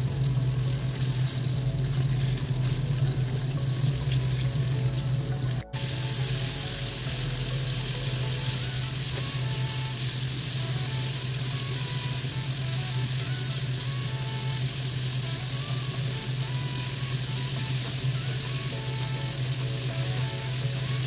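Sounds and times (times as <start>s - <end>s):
low hum: 0.0s - 20.4s
meat deep-frying in oil: 0.0s - 21.0s.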